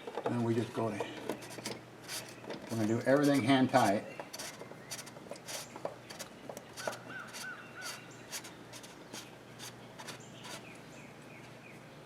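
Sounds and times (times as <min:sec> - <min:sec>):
birds chirping: 0:00.3 - 0:12.0.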